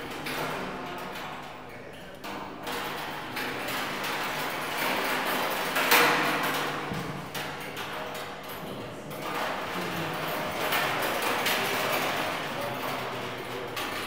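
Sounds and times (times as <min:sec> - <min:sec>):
metal spoons rattling in steel drum: 0:02.2 - 0:14.0.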